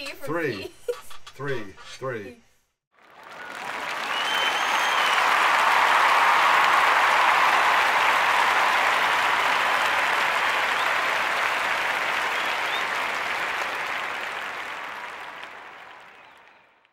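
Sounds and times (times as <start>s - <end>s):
crowd applauding: 3.0s - 16.9s.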